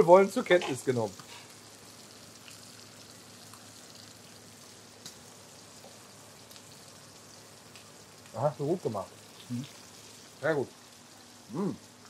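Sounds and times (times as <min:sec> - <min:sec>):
meat sizzling in butter: 0:00.0 - 0:12.0.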